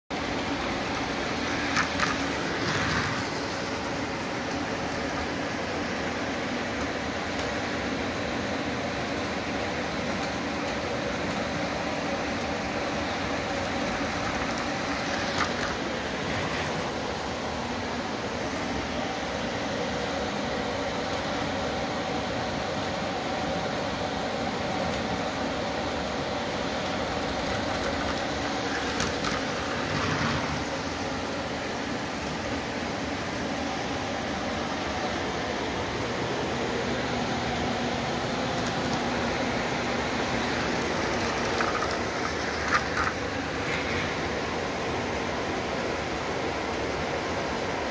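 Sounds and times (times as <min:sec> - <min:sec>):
model train whirring hum: 0:00.1 - 0:47.9.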